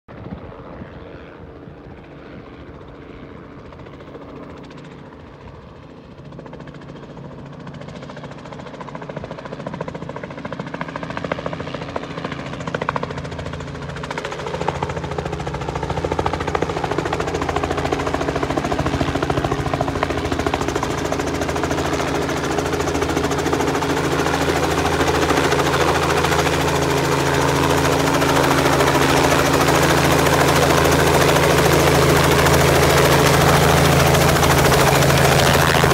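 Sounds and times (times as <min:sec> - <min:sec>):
helicopter rotor and engine: 0:00.1 - 0:35.9.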